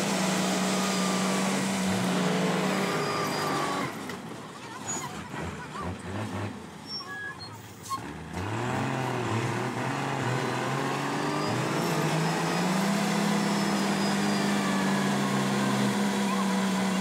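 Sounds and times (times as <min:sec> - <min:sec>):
heavy truck engine revving: 0:00.0 - 0:17.0.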